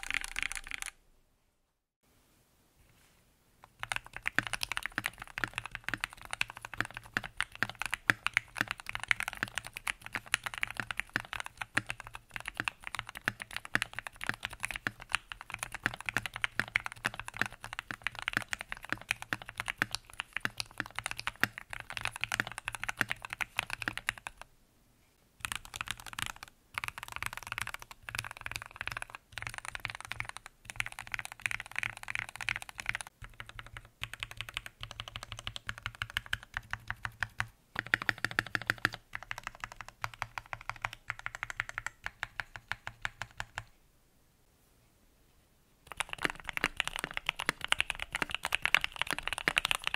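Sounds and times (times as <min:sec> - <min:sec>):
mechanical keyboard typing: 0:00.0 - 0:01.0, 0:03.7 - 0:24.5, 0:25.4 - 0:43.7, 0:45.9 - 0:49.9.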